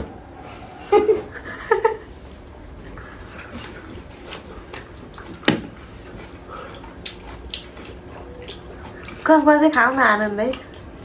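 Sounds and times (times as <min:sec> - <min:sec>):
wet chewing: 0:02.0 - 0:11.0.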